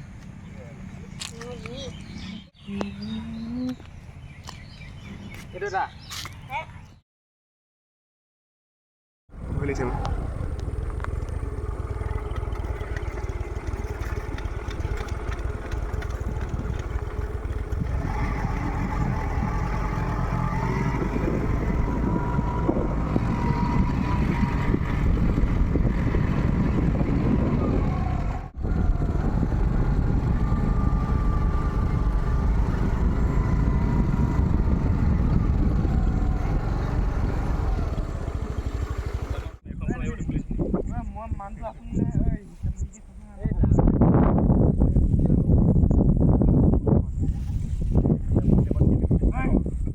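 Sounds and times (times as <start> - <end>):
vehicle engine rumbling: 0.0 - 5.6, 9.3 - 49.9.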